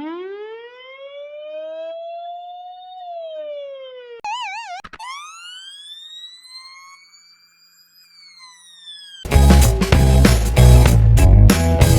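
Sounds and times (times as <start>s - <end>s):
siren winding up: 0.0s - 10.2s.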